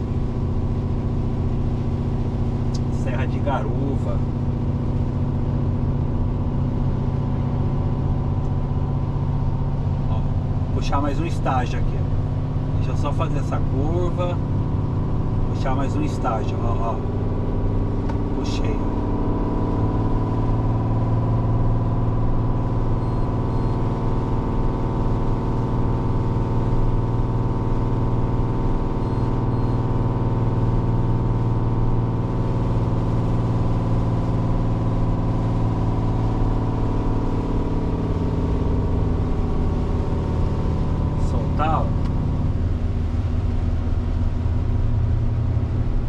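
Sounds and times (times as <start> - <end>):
diesel truck engine droning: 0.0 - 46.0.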